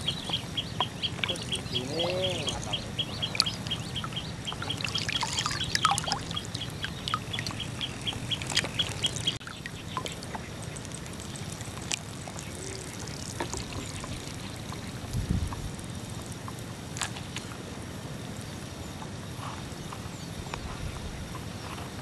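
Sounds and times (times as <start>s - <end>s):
water trickling and lapping: 0.0s - 22.0s.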